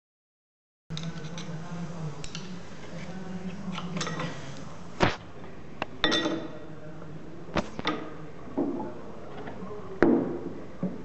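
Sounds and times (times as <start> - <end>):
low steady hum: 0.9 - 11.0.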